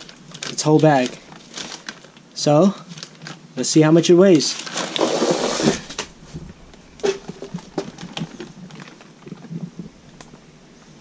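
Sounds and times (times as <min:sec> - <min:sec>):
plastic bag crinkling and rustling: 0:00.0 - 0:10.3.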